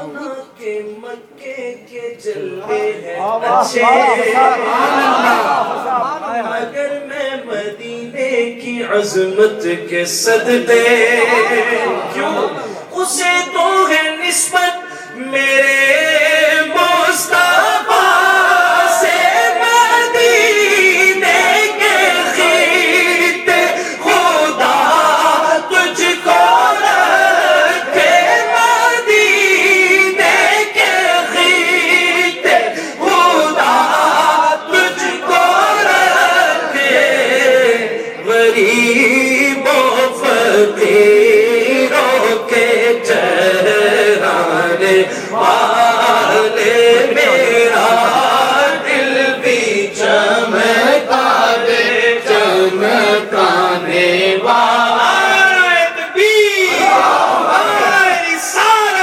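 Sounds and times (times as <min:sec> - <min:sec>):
man singing unaccompanied: 0:00.0 - 0:56.8.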